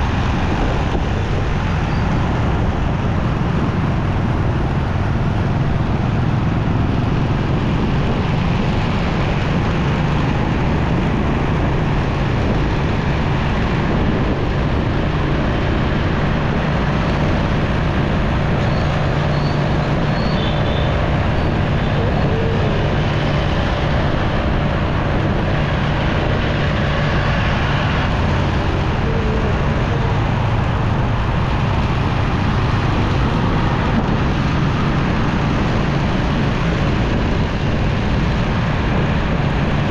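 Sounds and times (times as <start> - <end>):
motorcycle engine rumble: 0.0 - 39.9
surrounding traffic: 0.0 - 39.9.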